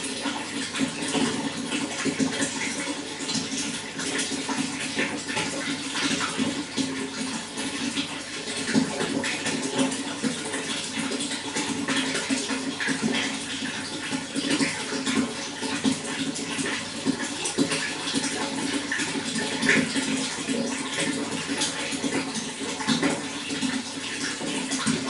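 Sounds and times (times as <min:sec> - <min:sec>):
running water splashing: 0:00.0 - 0:25.0.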